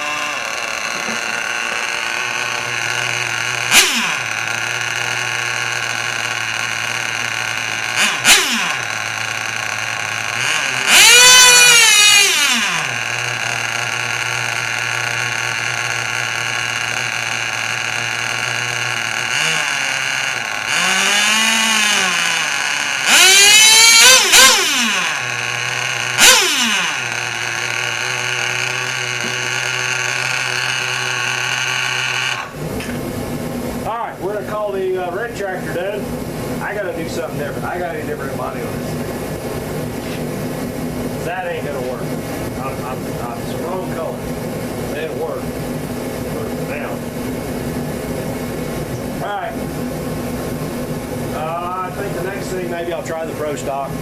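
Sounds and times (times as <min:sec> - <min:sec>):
electric motor whine: 0:00.0 - 0:33.8, 0:36.2 - 0:54.0
steady hum: 0:00.0 - 0:54.0.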